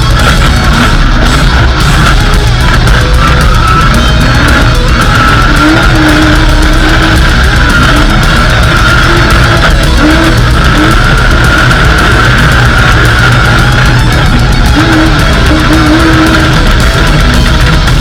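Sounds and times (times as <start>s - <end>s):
loud heavy metal music: 0.0s - 18.0s.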